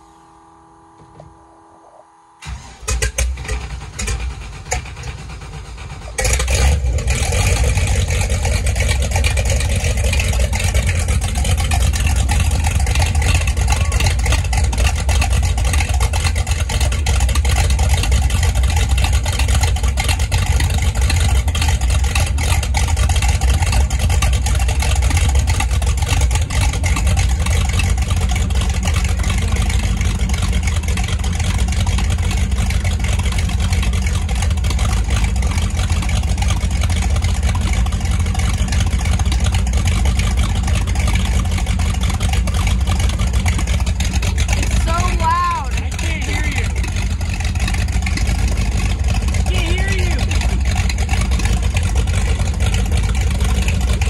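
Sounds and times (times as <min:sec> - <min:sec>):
boat engine starting and rumbling: 0:00.0 - 0:54.0.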